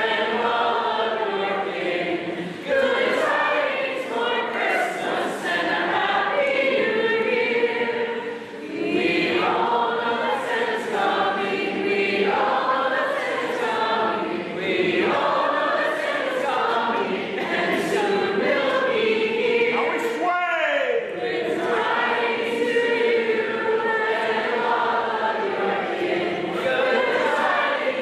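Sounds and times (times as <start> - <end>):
choir singing a carol: 0.0 - 20.1, 21.0 - 28.0.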